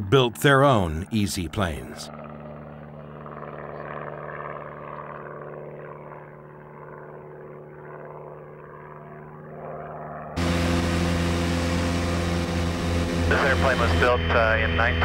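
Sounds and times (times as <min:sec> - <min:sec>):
propeller aircraft engine: 0:00.0 - 0:15.0.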